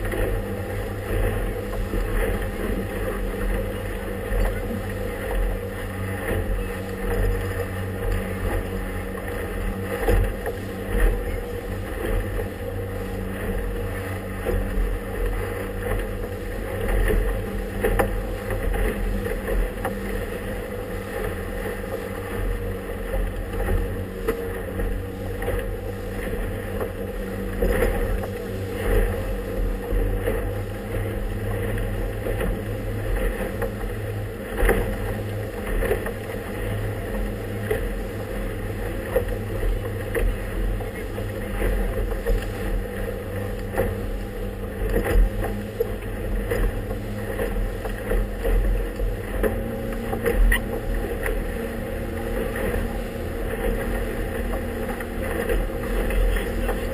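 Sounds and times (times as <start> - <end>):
hull thumping on waves: 0.0 - 56.9
motorboat engine droning: 0.0 - 56.9.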